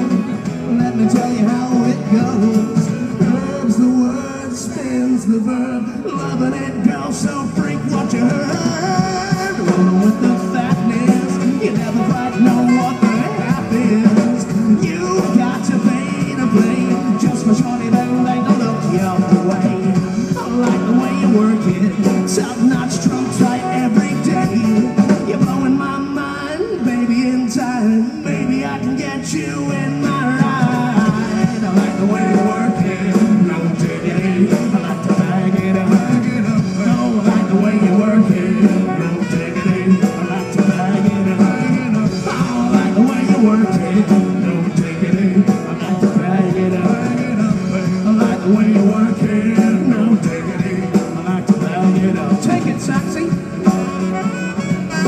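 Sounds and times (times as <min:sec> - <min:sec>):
live rock-pop band playing: 0:00.0 - 0:55.0.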